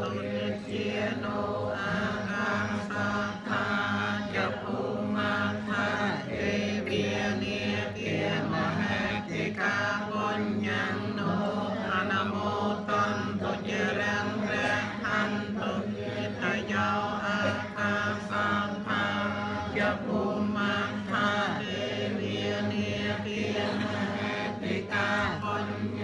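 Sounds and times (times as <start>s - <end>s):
group chanting a prayer: 0.0s - 26.0s.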